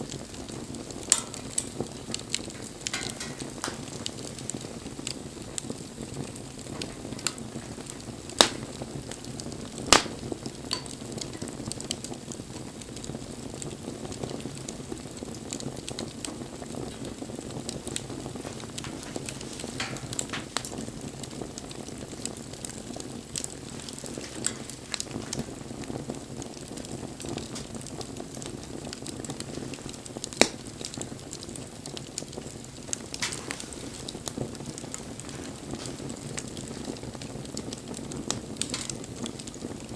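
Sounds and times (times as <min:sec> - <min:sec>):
bonfire flames rushing: 0:00.0 - 0:39.9
fire crackles and pops: 0:00.0 - 0:39.9.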